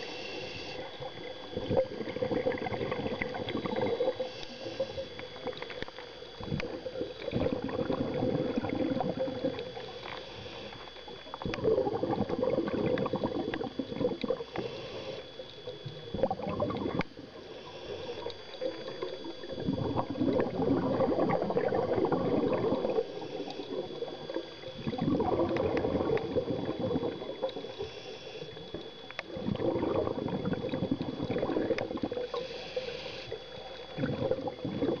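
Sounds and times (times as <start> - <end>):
exhaled bubbles underwater: 0.0 - 35.0.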